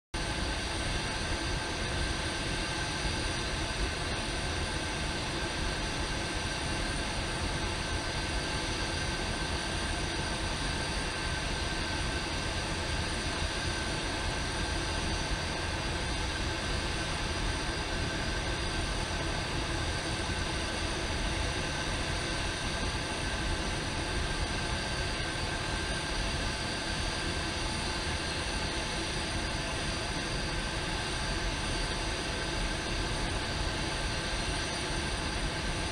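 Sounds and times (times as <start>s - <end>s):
high-pitched machine whines: 0.2s - 35.9s.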